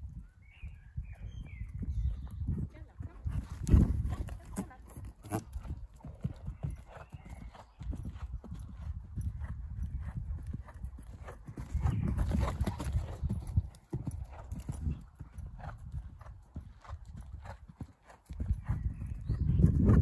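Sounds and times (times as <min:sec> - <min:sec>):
horse hooves thudding on sand: 0:02.0 - 0:20.0.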